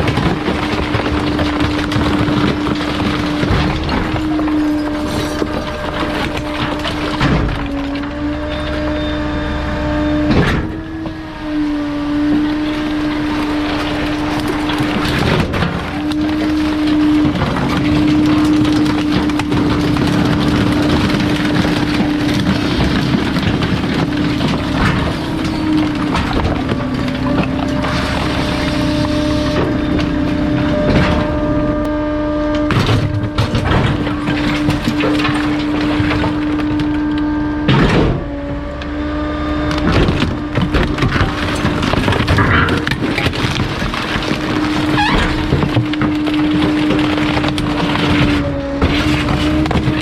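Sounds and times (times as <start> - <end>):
items cracking and crunching: 0.0 - 9.1, 10.2 - 50.0
dense mechanical noise: 0.0 - 50.0
garbage truck hum: 0.0 - 50.0.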